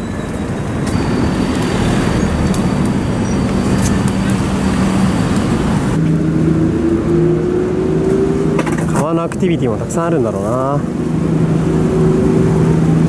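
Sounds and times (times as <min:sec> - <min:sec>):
road traffic passing: 0:00.0 - 0:13.0
low engine hum: 0:00.8 - 0:13.0.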